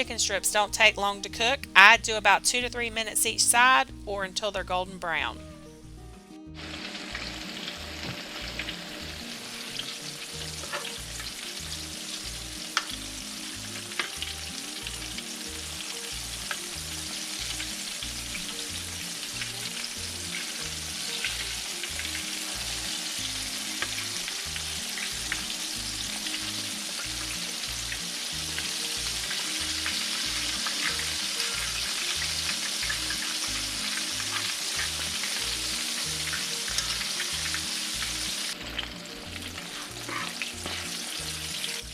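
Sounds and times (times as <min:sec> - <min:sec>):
chicken deep-frying in oil: 0:06.6 - 0:41.9.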